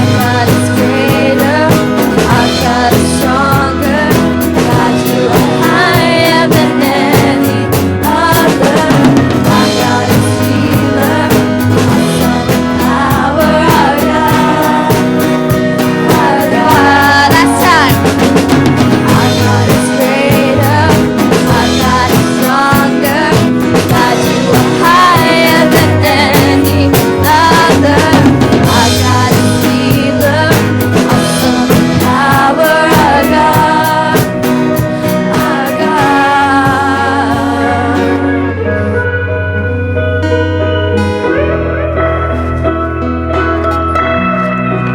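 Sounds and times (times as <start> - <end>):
snare and bass drum beat: 0.0 - 37.6
band music: 0.0 - 44.9
bending lead melody: 0.0 - 44.9.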